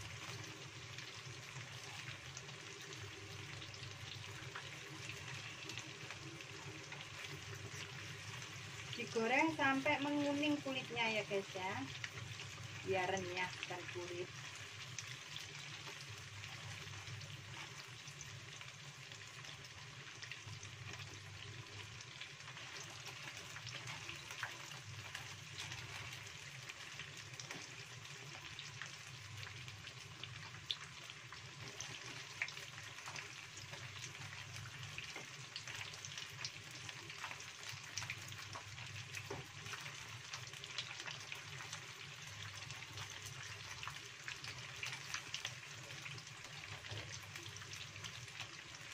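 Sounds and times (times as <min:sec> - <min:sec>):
tofu sizzling in hot oil: 0:00.0 - 0:48.9.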